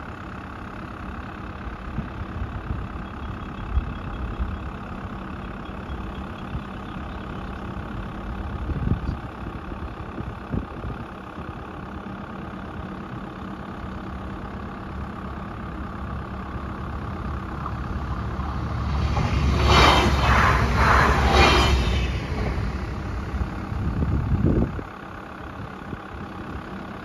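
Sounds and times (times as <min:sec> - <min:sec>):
low rumble of approaching train: 0:00.0 - 0:27.0
tractor diesel engine idling: 0:00.0 - 0:27.0.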